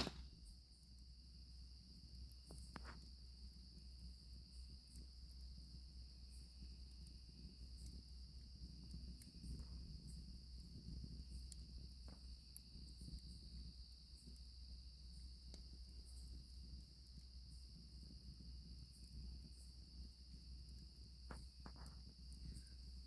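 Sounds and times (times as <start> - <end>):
campfire crackling: 0.0 - 23.0
crickets trilling: 0.0 - 23.0.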